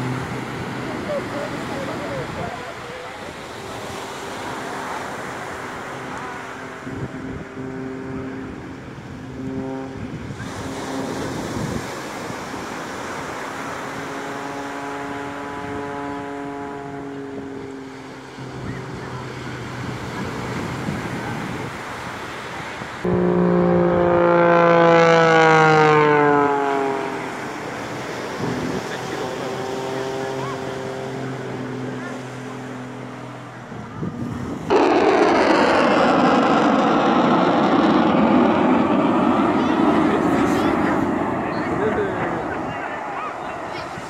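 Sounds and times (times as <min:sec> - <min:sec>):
airplane engine: 0:00.0 - 0:44.0
wind: 0:00.0 - 0:44.0.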